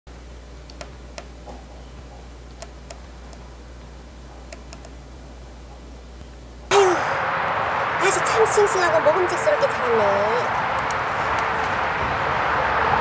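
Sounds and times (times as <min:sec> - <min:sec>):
steady low hum: 0:00.1 - 0:13.0.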